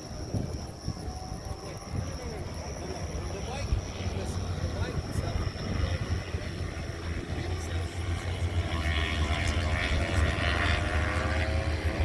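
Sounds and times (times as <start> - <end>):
racing motorcycle engines whining: 0.0 - 12.0.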